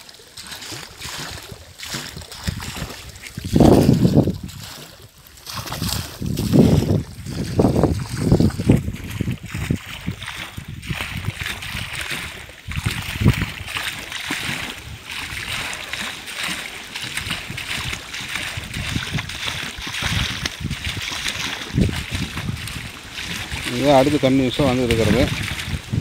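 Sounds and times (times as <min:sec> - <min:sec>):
water gushing from pipes: 0:00.0 - 0:26.0.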